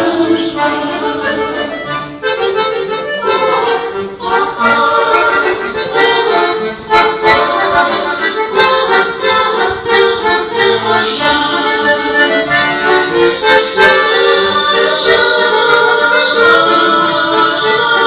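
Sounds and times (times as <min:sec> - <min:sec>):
accordion playing chords: 0:00.0 - 0:18.0.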